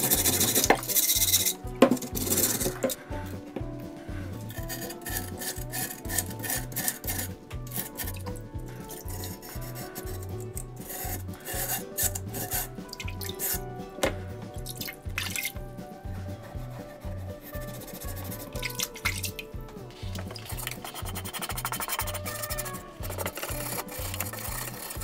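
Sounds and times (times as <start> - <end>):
background music with steady beat: 0.0 - 25.0
water splashing: 0.0 - 25.0
wire brush scrubbing metal underwater: 0.0 - 25.0.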